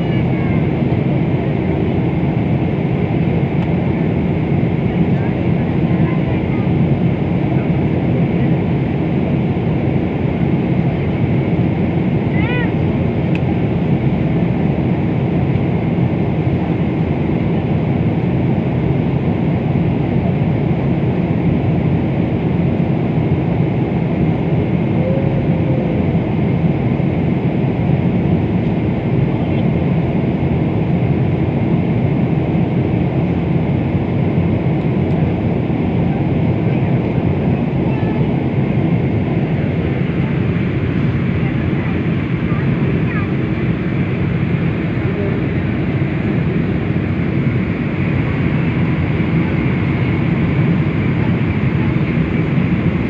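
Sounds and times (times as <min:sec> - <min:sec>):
airliner cabin engine hum: 0:00.0 - 0:53.0.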